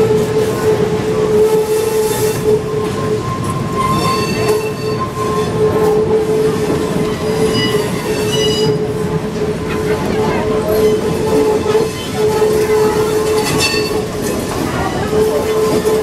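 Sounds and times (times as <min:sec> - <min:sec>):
train wheels on rails: 0:00.0 - 0:16.0
wheels squealing against rail: 0:00.0 - 0:16.0.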